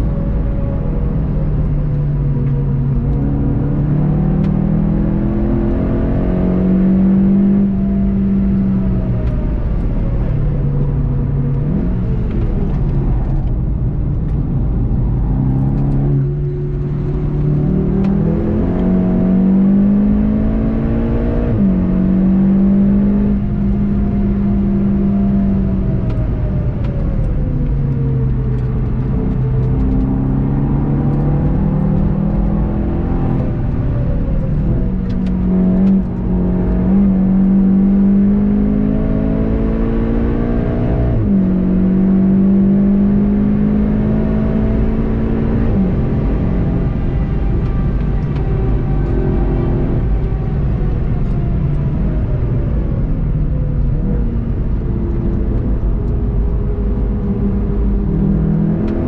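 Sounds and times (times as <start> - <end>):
car engine accelerating and upshifting: 0.0 - 59.0
road and tyre noise: 0.0 - 59.0.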